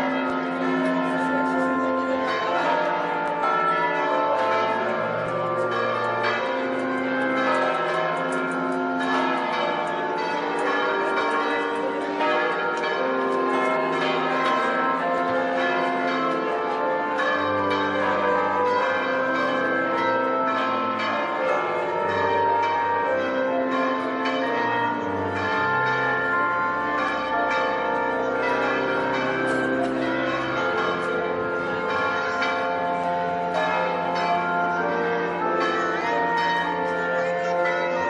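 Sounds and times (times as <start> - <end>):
church bells pealing: 0.0 - 38.0.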